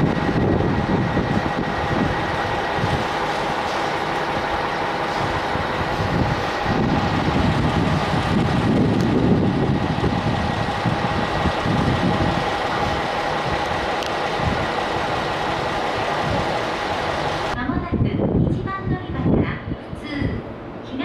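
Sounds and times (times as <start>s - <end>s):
electric train whine: 0.0s - 17.6s
low rumble: 0.0s - 20.9s.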